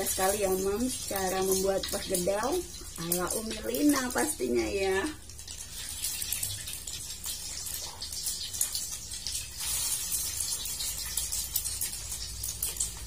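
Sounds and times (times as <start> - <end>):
deep-frying sizzle in oil: 0.0 - 13.0.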